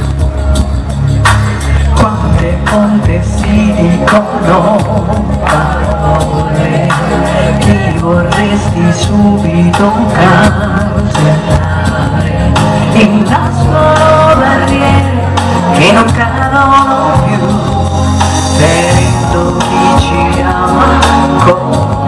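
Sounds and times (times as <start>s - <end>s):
pop accompaniment with drums: 0.0s - 22.0s
woman singing pop song: 1.6s - 22.0s.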